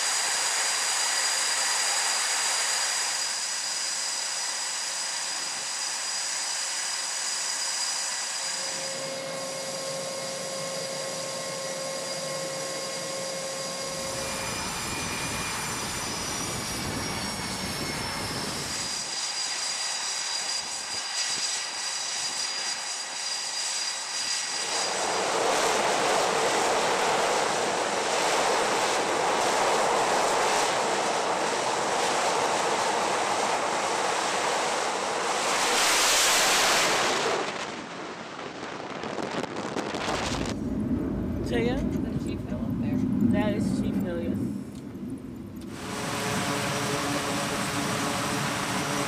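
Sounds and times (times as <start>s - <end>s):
loud jet rush: 0.0s - 44.7s, 45.6s - 49.0s
jet engine turbine whine: 0.0s - 49.0s.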